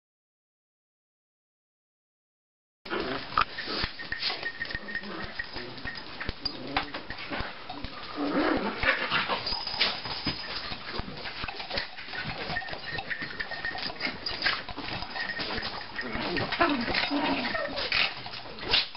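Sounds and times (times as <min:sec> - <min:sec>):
small dogs play-fighting: 0:02.9 - 0:18.9
scuffling and rustling: 0:03.0 - 0:18.9.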